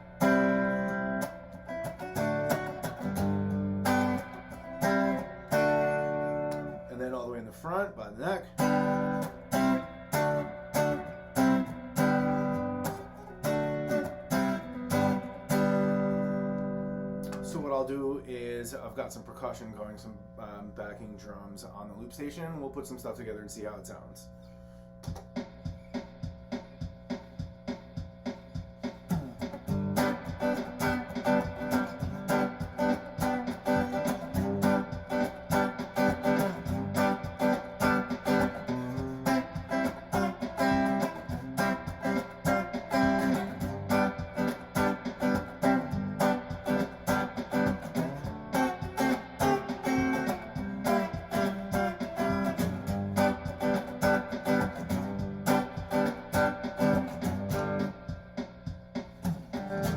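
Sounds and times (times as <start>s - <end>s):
looped drum beat: 0.0s - 6.8s, 8.4s - 16.5s, 25.0s - 59.9s
electric guitar through tube amp: 0.0s - 18.0s, 29.0s - 58.4s, 59.3s - 59.9s.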